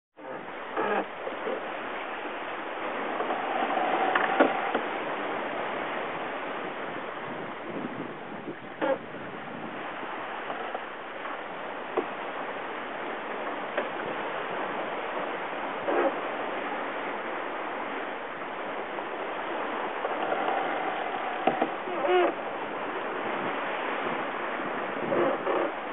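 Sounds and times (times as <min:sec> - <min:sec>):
sea water rushing past a yacht: 0:00.2 - 0:25.9.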